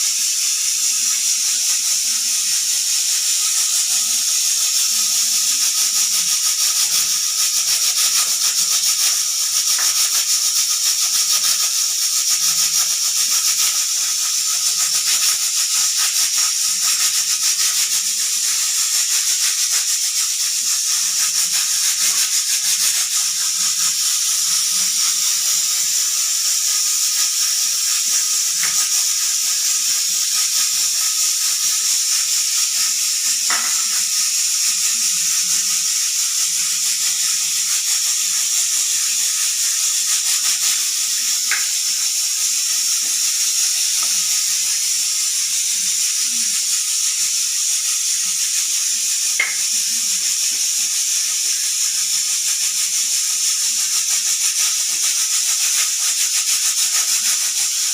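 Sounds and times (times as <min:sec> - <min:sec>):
pressure cooker hissing steam: 0:00.0 - 0:57.9.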